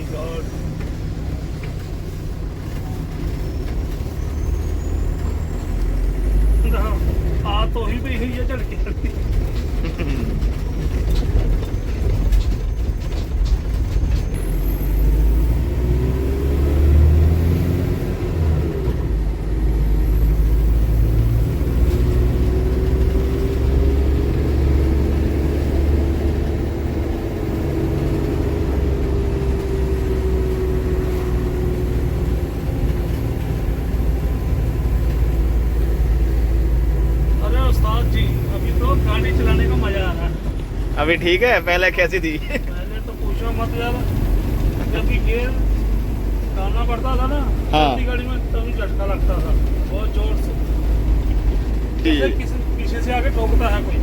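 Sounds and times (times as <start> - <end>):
diesel van engine rumble: 0.0 - 54.0.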